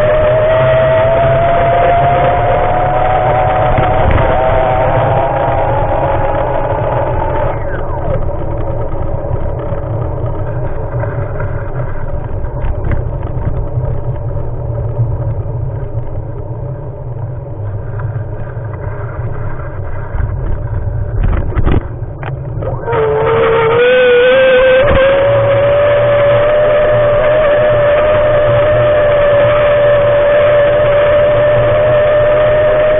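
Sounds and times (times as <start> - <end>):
faint steady whine: 0.0 - 32.9
wind and travel rumble: 0.0 - 32.9.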